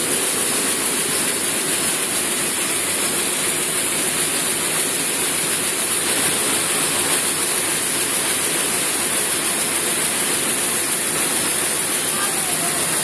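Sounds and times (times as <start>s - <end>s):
processing machinery running: 0.0s - 13.0s.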